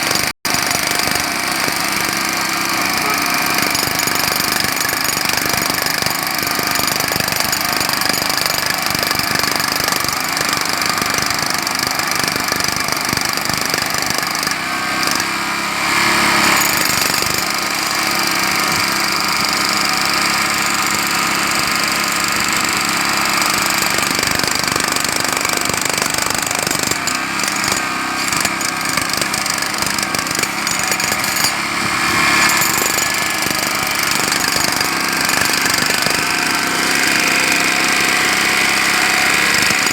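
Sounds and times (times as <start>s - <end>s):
jackhammer breaking pavement: 0.0s - 39.9s.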